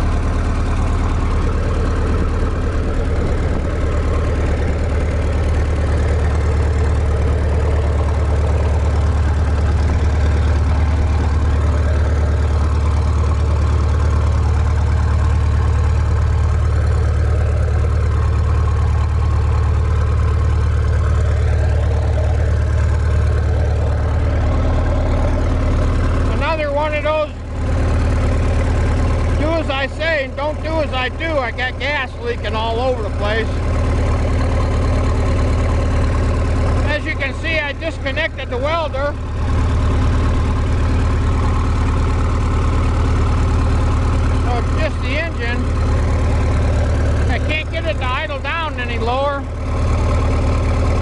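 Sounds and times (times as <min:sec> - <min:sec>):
diesel engine fast idle: 0:00.0 - 0:51.0.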